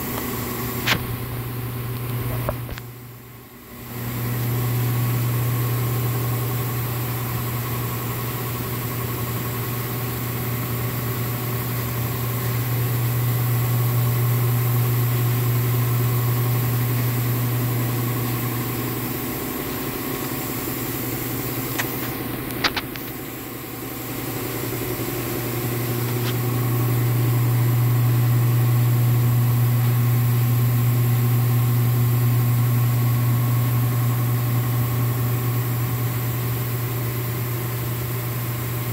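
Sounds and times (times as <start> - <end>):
ventilation fan humming: 0.0 - 38.9.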